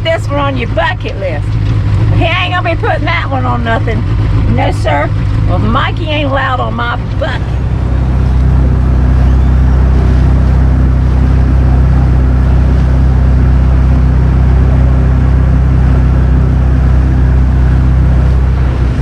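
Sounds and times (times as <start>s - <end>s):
motorboat engine drone: 0.0s - 19.0s
rushing water noise: 0.0s - 19.0s.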